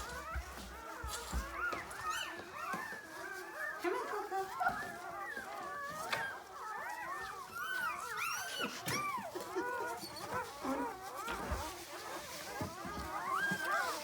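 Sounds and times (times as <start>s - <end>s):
puppies crying: 0.0s - 14.0s.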